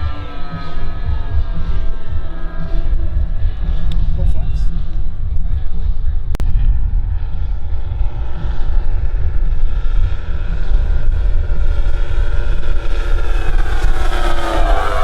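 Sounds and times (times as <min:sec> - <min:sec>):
heavy low rumble: 0:00.0 - 0:15.0
model aircraft engines whining: 0:00.0 - 0:15.0.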